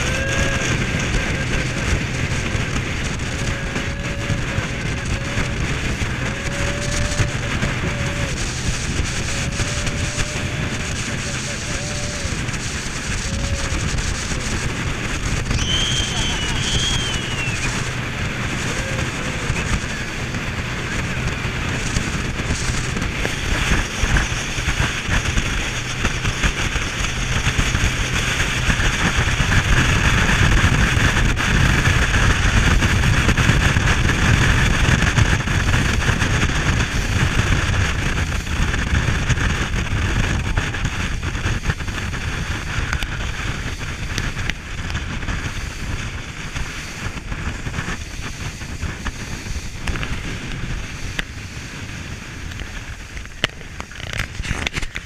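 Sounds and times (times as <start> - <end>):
boat engine running: 0.0 - 55.0
water rushing along hull: 0.0 - 55.0
wind buffeting microphone: 0.0 - 55.0.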